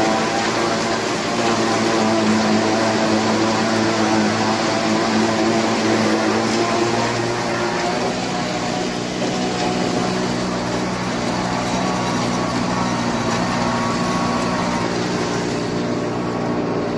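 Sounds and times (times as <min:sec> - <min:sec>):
harvester machinery whirring: 0:00.0 - 0:16.9
tractor diesel engine running: 0:00.0 - 0:16.9.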